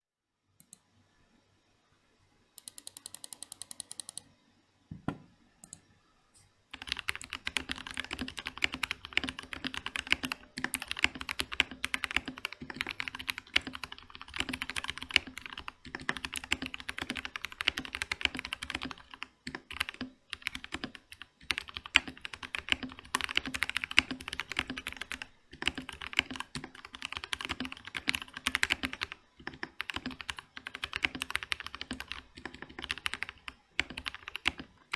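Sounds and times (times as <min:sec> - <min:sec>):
fast typing on mechanical keyboard: 0:02.6 - 0:04.2, 0:06.7 - 0:34.9.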